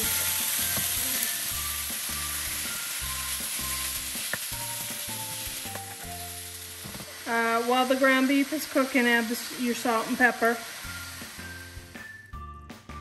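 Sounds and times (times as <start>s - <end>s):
meat sizzling in a pan: 0.0s - 12.3s
soft background music: 0.0s - 13.0s.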